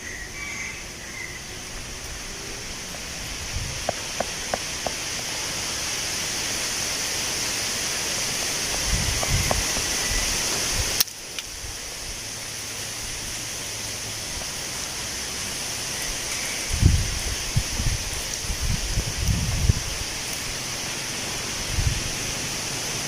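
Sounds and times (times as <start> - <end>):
wind rustling tree leaves: 0.0 - 23.0.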